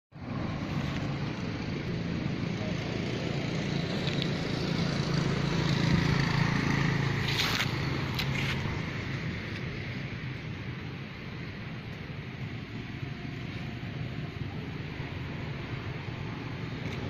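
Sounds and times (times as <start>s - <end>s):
outdoor background noise: 0.1s - 17.0s.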